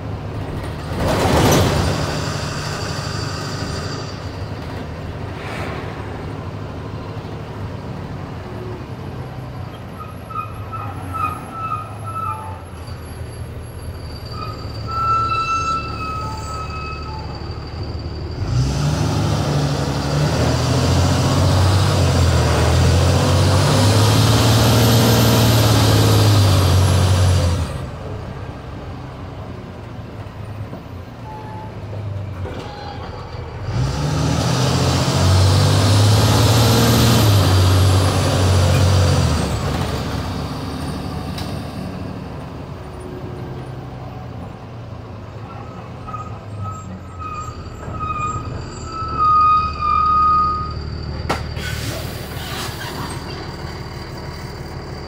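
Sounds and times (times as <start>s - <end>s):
diesel engine pulling hard: 0.0s - 55.0s.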